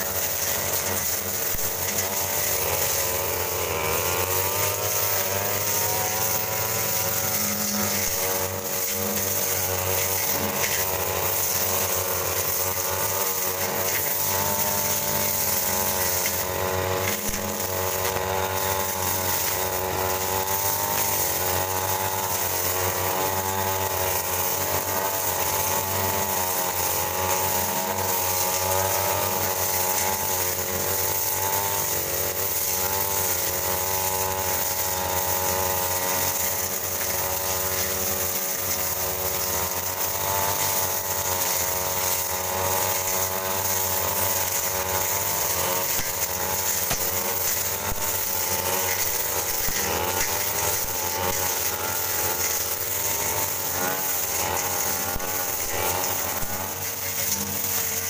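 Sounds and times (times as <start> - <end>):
brush cutter engine at high revs: 0.0 - 58.0.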